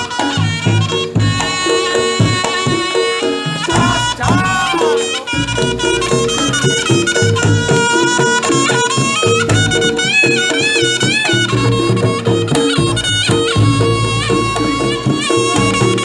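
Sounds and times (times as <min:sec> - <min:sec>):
drums and gong-chimes rhythm: 0:00.0 - 0:16.0
reedy shawm melody: 0:00.0 - 0:16.0.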